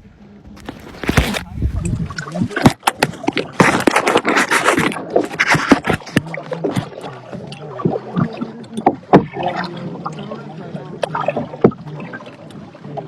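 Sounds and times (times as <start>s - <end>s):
paddles knocking against hulls: 0.5s - 10.2s, 11.0s - 13.0s
water splashing: 0.5s - 13.0s.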